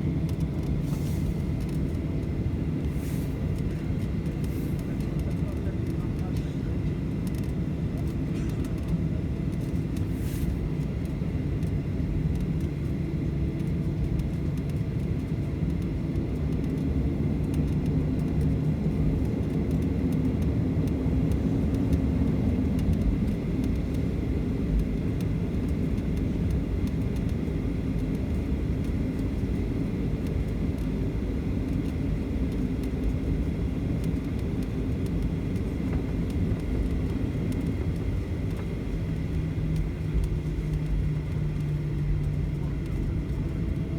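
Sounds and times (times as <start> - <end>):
idling jet engines rumble: 0.0 - 43.9.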